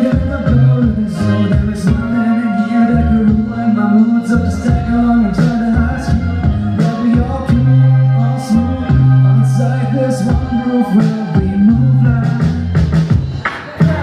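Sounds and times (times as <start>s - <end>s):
hip-hop beat: 0.0s - 14.0s.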